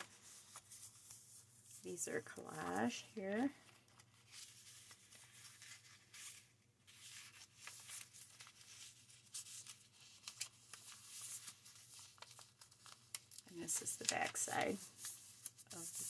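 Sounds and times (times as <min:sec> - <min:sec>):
paper pages rustling: 0:00.0 - 0:16.0.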